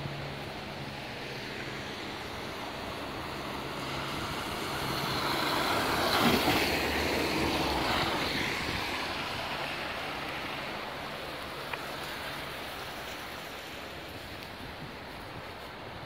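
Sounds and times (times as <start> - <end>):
steady rain: 0.0 - 16.0
tyre hiss on wet street: 0.0 - 16.0.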